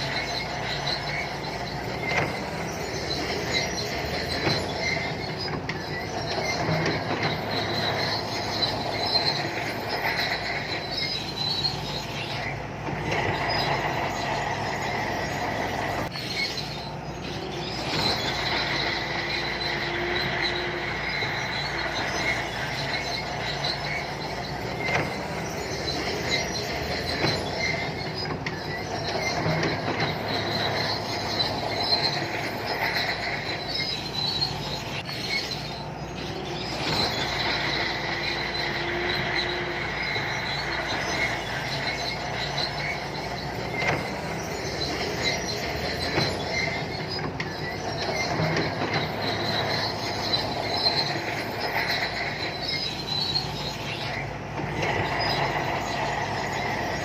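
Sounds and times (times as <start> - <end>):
bulldozer diesel engine running: 0.0 - 57.0
steel tracks squealing: 0.0 - 57.0.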